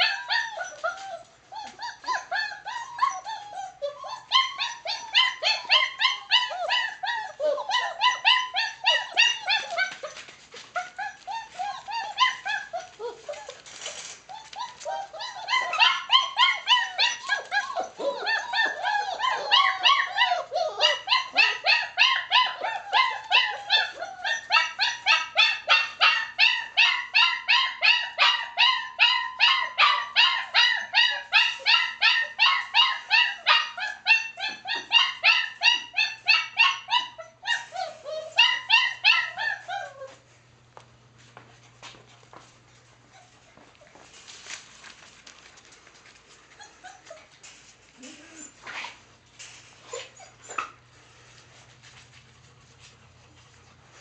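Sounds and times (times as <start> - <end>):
puppy yelping and whining: 0.0 - 40.4, 42.8 - 44.3, 46.0 - 52.1.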